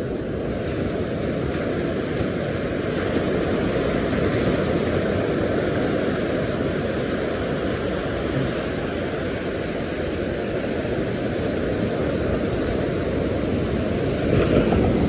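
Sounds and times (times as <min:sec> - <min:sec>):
surf: 0:00.0 - 0:15.0
wind: 0:00.0 - 0:15.0.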